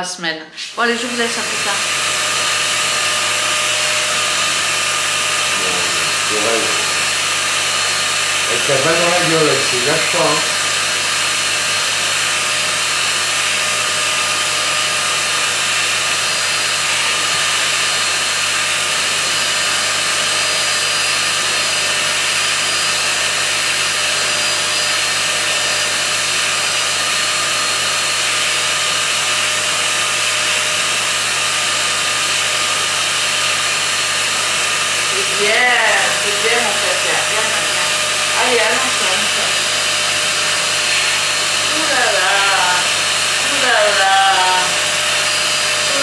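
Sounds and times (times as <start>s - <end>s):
grooming vacuum running: 0.5s - 46.0s.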